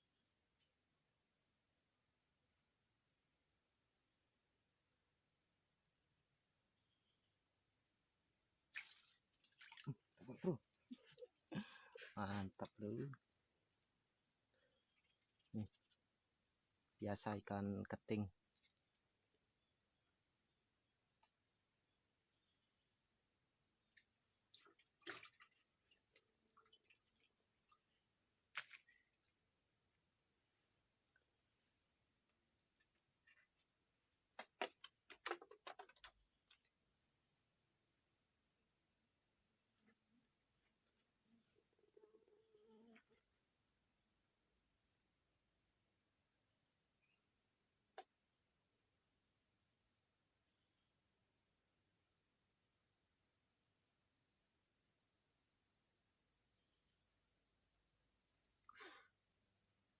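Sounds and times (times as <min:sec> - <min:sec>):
cricket chorus: 0:00.0 - 0:59.9.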